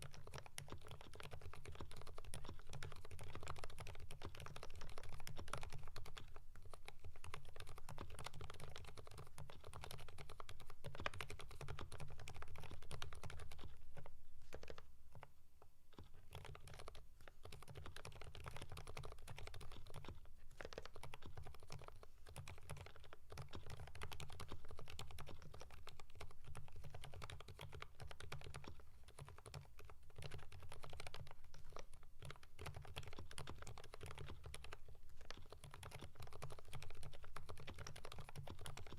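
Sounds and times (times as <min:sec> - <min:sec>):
fast typing on mechanical keyboard: 0:00.0 - 0:15.3, 0:15.9 - 0:38.9.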